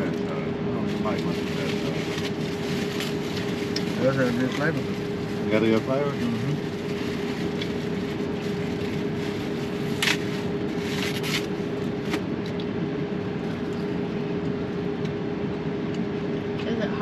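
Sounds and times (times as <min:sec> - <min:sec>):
vehicle cabin motor hum: 0:00.0 - 0:17.0.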